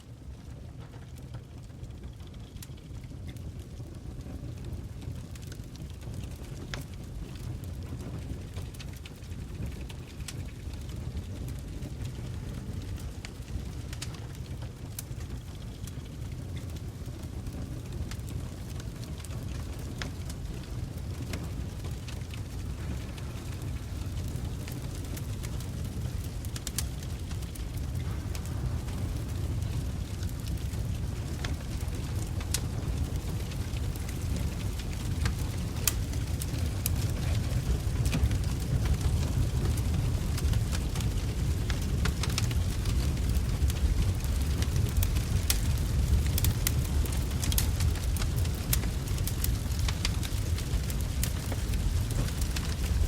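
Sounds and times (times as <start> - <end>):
fire crackles and pops: 0.0 - 53.0
low rumble of flames: 0.0 - 53.0.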